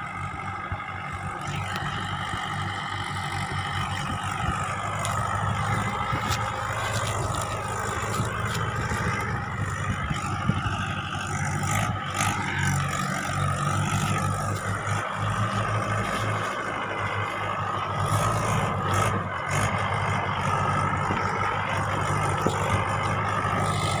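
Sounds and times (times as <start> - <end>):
tractor diesel engines running: 0.0 - 24.0.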